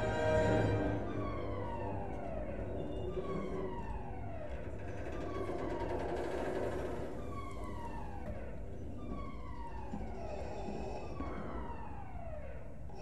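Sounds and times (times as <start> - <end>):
alarm siren falling wail: 0.0 - 13.0.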